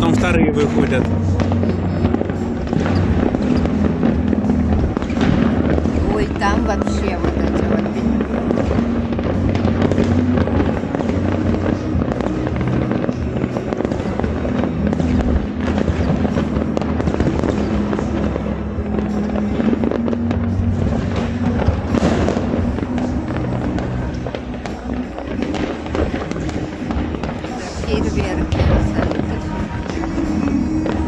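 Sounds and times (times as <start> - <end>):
fireworks crackling and banging: 0.0 - 31.0
music playing: 0.0 - 31.0.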